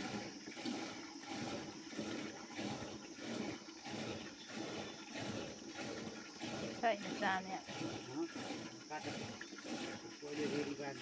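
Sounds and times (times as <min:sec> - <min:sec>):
yogurt sloshing in a hand churn: 0:00.0 - 0:11.0.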